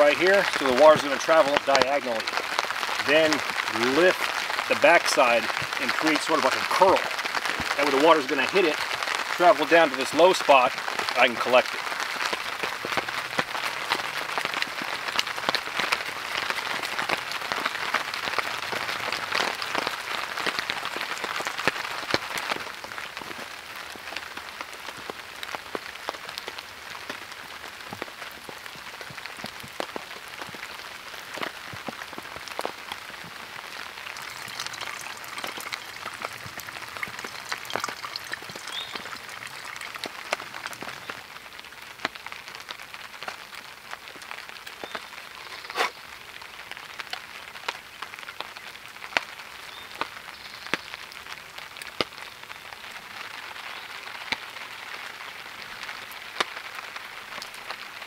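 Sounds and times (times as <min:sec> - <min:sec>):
rain pattering on a tarp: 0:00.0 - 0:58.0.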